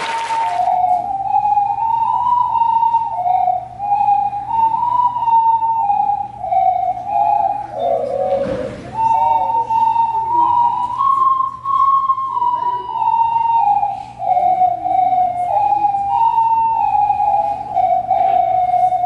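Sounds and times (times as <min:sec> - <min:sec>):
ocarinas playing a melody: 0:00.0 - 0:19.0.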